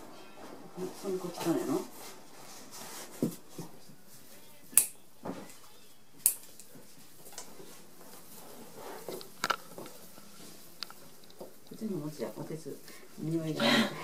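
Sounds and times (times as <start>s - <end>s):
hands rustling flowers and paper: 0.0s - 13.6s.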